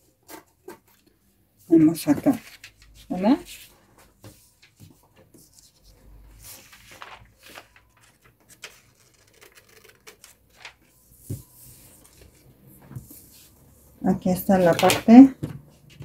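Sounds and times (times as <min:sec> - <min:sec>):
paper rustling: 0:01.7 - 0:13.6, 0:14.4 - 0:16.0.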